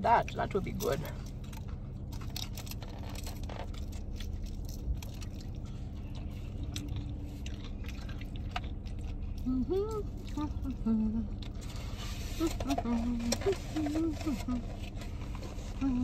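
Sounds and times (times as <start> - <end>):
steady low hum: 0.0 - 16.0
person chewing crunchy food: 0.2 - 15.8.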